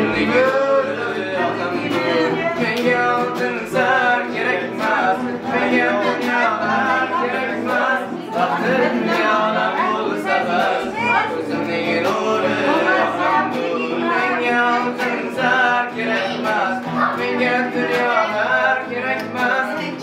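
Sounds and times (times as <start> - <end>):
song with lead vocal and beat: 0.0 - 20.0.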